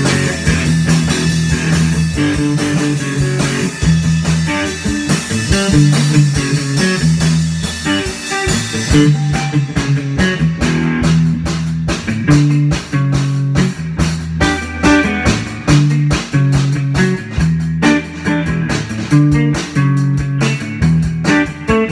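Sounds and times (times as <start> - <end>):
bluesy electric guitar riff: 0.0 - 21.9
drum kit and cymbal hits: 0.0 - 21.9.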